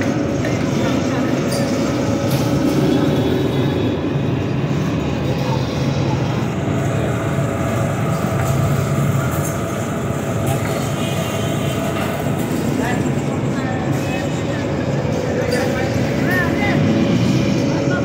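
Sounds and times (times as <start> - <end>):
rumbling din of crowded shop: 0.0 - 18.0.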